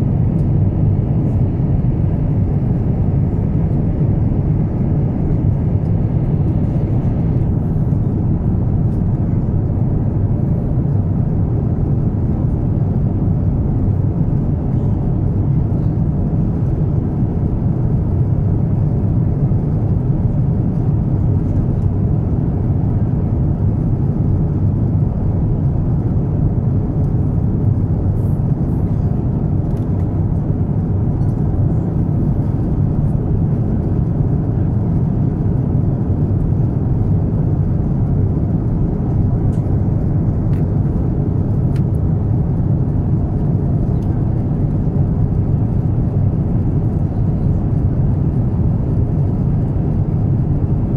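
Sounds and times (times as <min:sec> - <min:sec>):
aircraft cabin rumble: 0:00.0 - 0:50.9.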